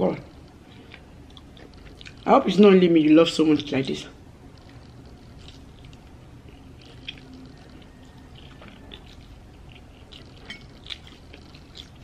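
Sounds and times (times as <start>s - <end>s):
person chewing noodles: 0.3s - 2.8s, 4.5s - 12.0s.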